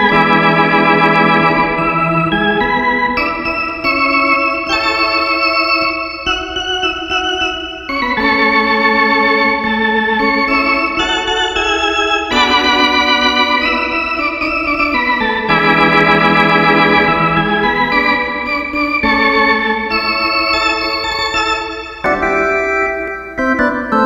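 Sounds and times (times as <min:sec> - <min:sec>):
organ chords with vibrato: 0:00.0 - 0:24.0.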